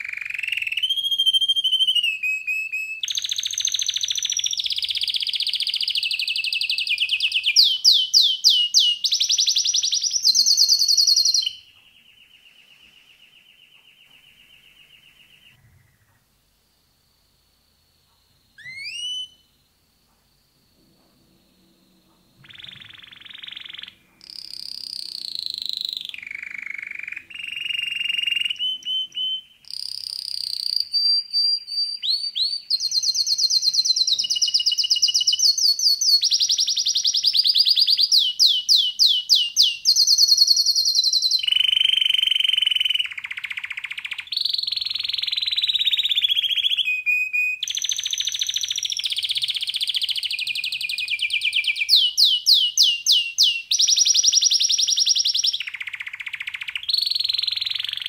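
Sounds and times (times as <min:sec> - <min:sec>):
canary singing trills: 0:00.0 - 0:16.2, 0:18.6 - 0:19.6, 0:22.3 - 0:58.0.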